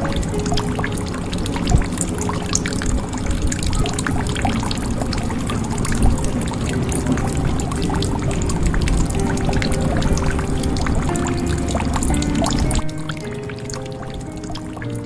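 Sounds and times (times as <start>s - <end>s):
water pouring into a jug: 0.0s - 15.0s.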